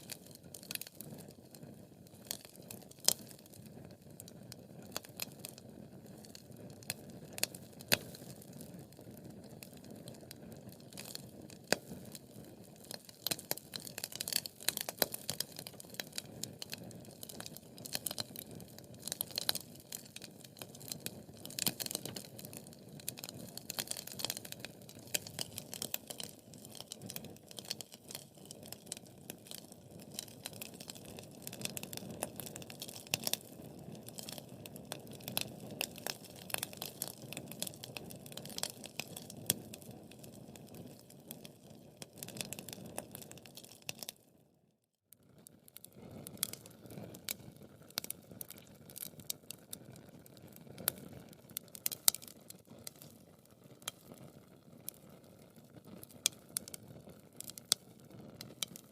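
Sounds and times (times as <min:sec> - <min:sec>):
wood fire crackling and hissing: 0:00.0 - 0:44.4, 0:45.1 - 0:58.9.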